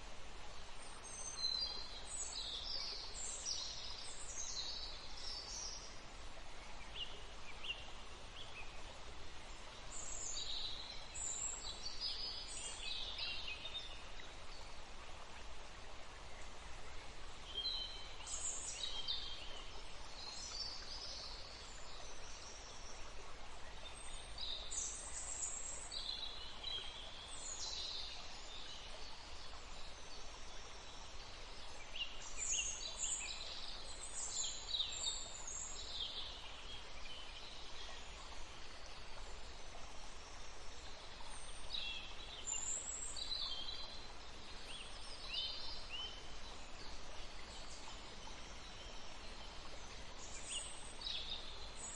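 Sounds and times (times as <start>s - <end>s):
faint background hiss: 0.0s - 51.9s.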